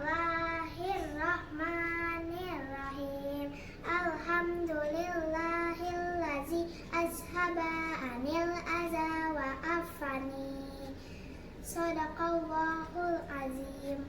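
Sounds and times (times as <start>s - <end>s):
girl singing a chant: 0.0s - 14.0s.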